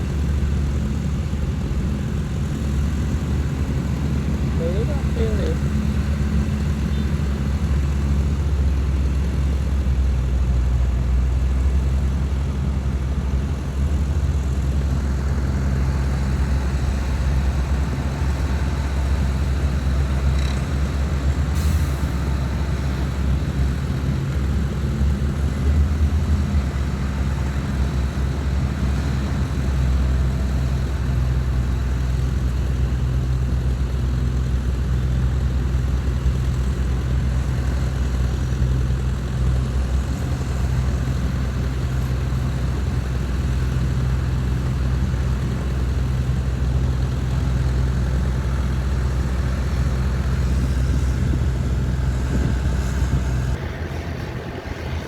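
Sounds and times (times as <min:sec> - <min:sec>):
heavy diesel engines droning: 0:00.0 - 0:55.0.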